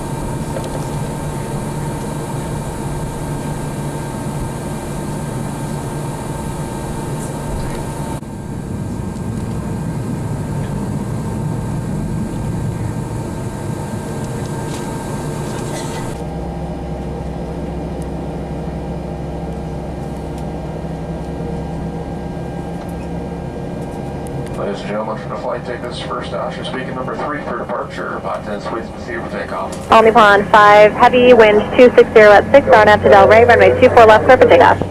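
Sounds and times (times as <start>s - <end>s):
aircraft cabin hum: 0.0s - 34.9s
deep hum: 0.0s - 34.9s.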